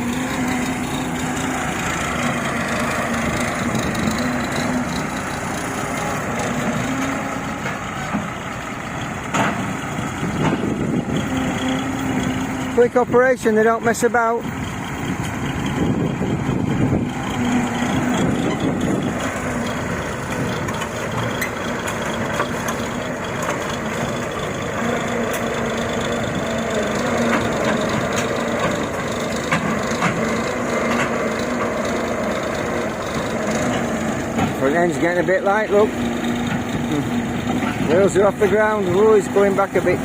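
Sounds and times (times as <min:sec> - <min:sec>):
harvesting machine running: 0:00.0 - 0:40.0.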